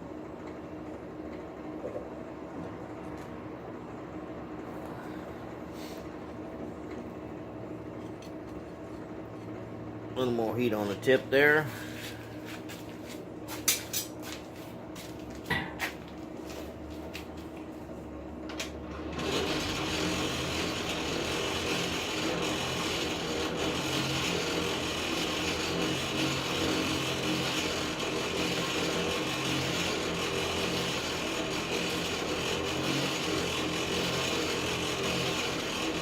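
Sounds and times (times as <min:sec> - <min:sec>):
forge blower running: 0:00.0 - 0:36.0.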